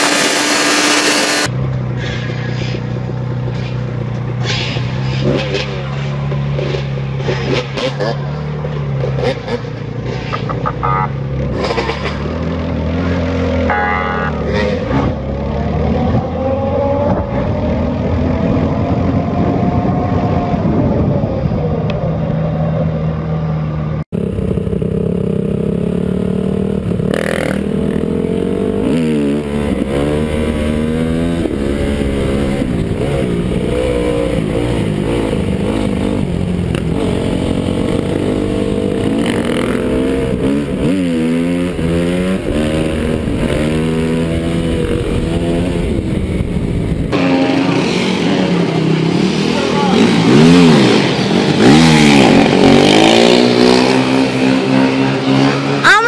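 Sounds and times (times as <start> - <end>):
dirt bike engine revving: 0.0 - 21.0, 24.2 - 56.0.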